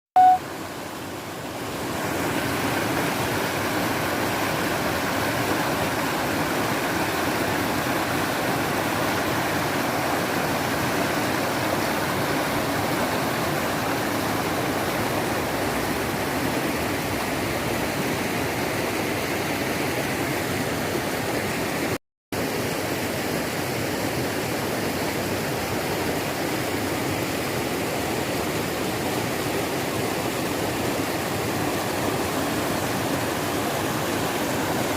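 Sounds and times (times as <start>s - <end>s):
stream water running: 0.2s - 34.9s.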